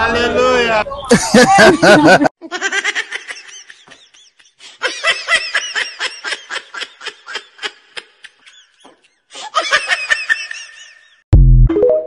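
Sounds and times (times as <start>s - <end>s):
high-pitched laughter: 1.1s - 11.2s.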